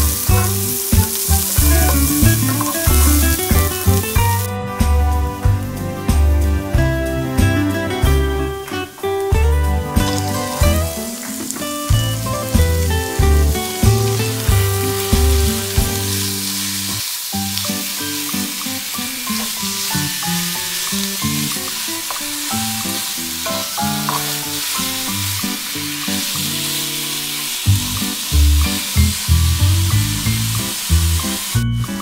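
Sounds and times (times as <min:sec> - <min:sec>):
meat sizzling in a frying pan: 0:00.0 - 0:04.5, 0:05.4 - 0:32.0
background music: 0:00.0 - 0:32.0.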